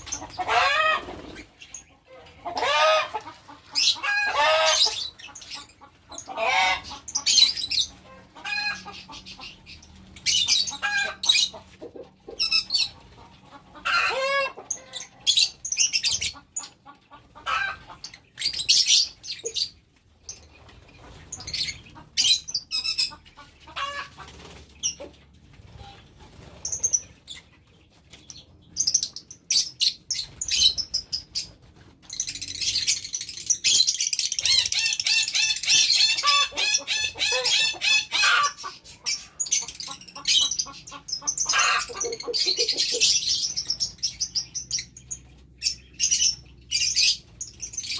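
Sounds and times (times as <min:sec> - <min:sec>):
birds rapid chattering: 0:00.0 - 0:47.9
lovebirds chirping and squawking: 0:00.0 - 0:47.9.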